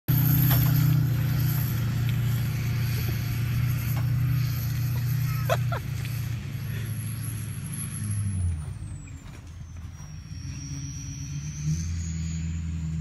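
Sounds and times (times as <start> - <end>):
engine droning under load: 0.1 - 13.0.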